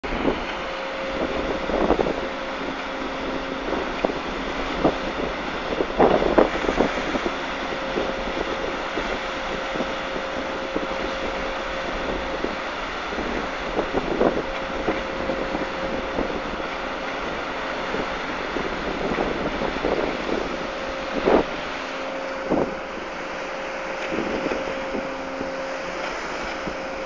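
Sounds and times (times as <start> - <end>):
boat engine hum: 0.0 - 27.0
wind buffeting microphone: 0.0 - 27.0.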